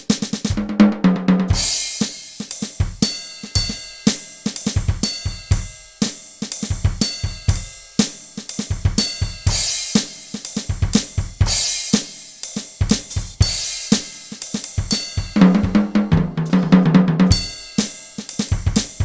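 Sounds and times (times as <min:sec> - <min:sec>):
electronic drum kit beat: 0:00.0 - 0:19.0.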